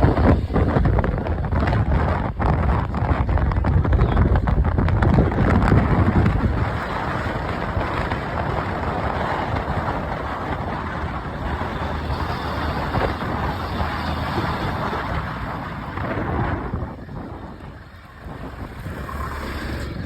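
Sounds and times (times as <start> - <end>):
motorcycle running: 0.0 - 20.0
wind rushing over microphone: 0.0 - 20.0.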